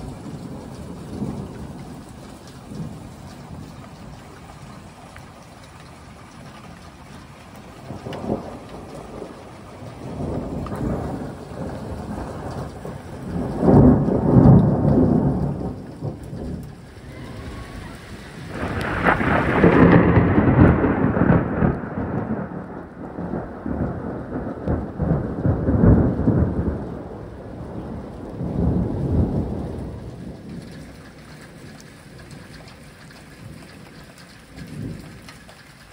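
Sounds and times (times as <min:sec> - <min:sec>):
heavy rain: 0:00.0 - 0:35.9
thunder rolling: 0:00.0 - 0:35.9.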